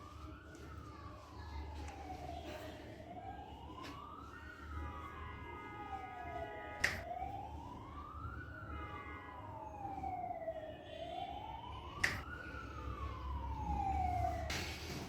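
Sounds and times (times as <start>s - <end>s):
wailing siren: 0.0s - 15.0s.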